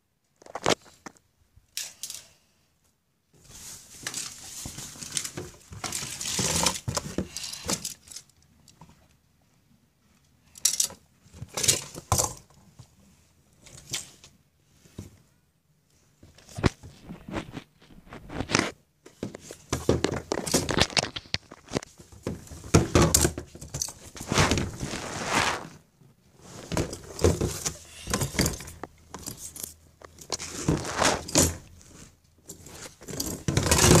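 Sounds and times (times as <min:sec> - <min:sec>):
plastic bin and toys handled: 0:03.3 - 0:09.2, 0:10.0 - 0:34.0.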